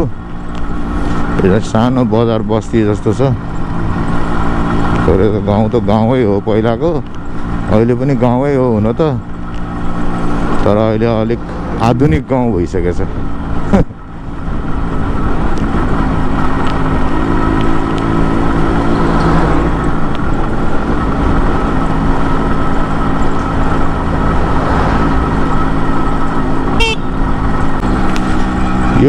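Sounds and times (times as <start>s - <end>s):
two-stroke motorcycle engine: 0.0s - 29.0s
wind and road rush: 0.0s - 29.0s.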